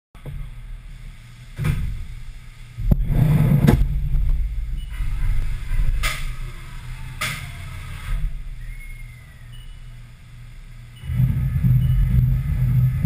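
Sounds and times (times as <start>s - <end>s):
machine low hum: 0.2s - 13.0s
rushing noise bursts: 0.3s - 13.0s.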